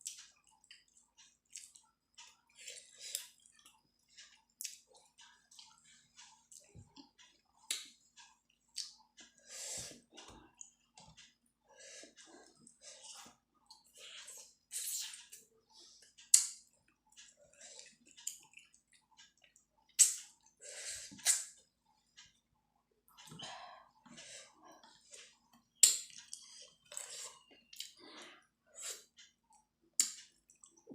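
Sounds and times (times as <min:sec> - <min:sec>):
person chewing wet food: 0:00.0 - 0:22.4, 0:23.0 - 0:30.9.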